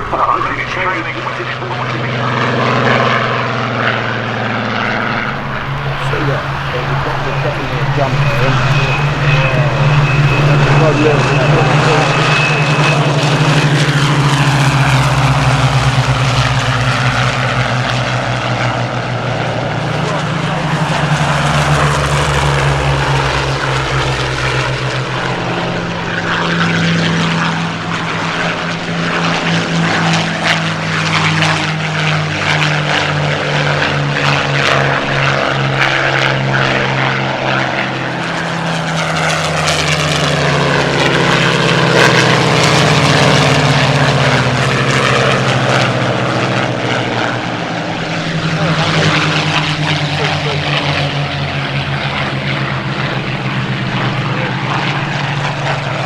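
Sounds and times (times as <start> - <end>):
propeller planes droning past: 0.0 - 56.0.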